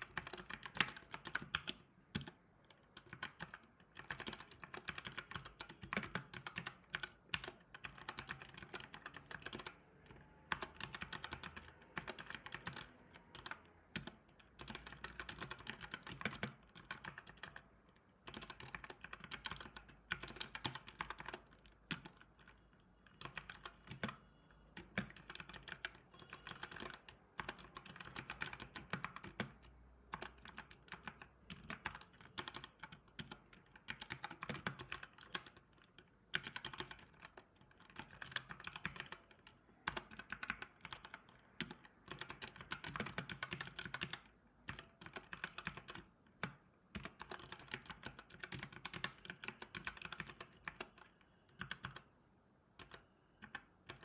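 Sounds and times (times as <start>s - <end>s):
keyboard typing clicks: 0.0s - 52.1s, 52.8s - 54.0s.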